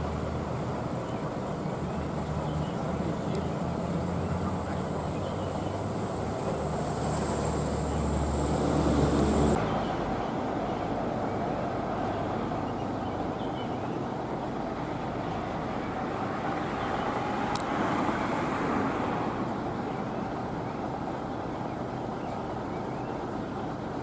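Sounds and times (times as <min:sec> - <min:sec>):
bus engine and road noise: 0:00.0 - 0:24.0.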